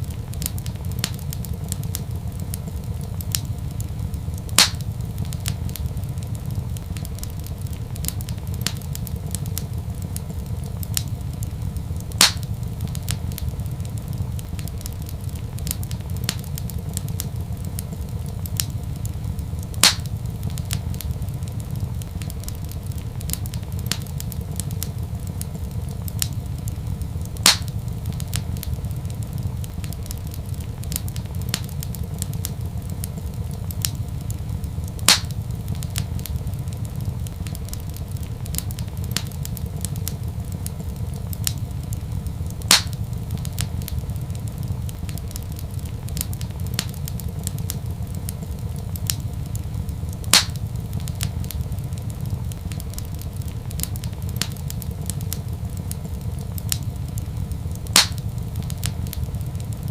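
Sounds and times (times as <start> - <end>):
fire low rumble: 0.0 - 59.9
fire snapping and popping: 0.0 - 59.9.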